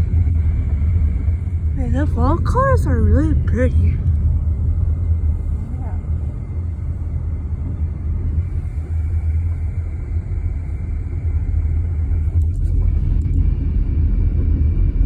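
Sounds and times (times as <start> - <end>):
car driving on gravel: 0.0 - 14.9.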